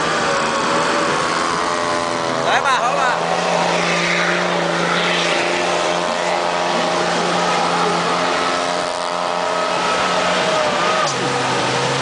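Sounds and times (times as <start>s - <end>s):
pickup engine revving high: 0.0s - 12.0s.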